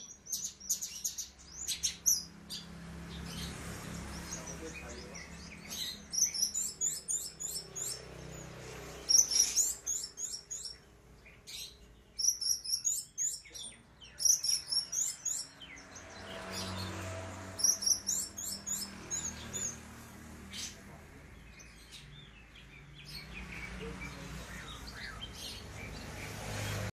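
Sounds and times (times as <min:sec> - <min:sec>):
thrush singing rapid chirps: 0:00.0 - 0:26.9.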